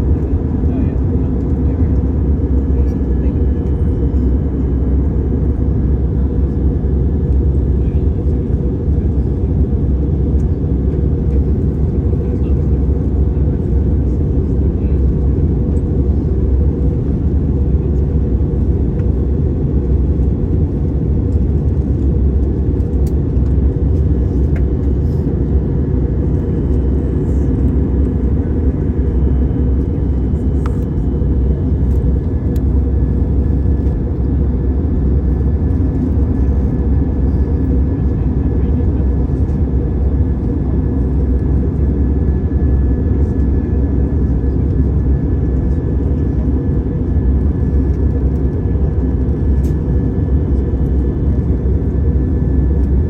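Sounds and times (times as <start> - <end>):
jet airliner engines roaring: 0.0 - 53.0.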